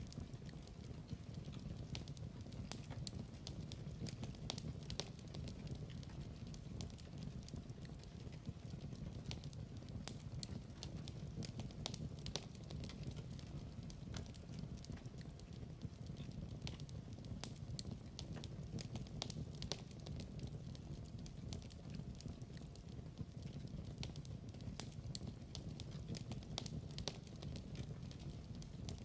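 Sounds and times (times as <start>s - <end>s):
log fire crackling: 0.0s - 29.0s
low rumble of burning wood: 0.0s - 29.0s.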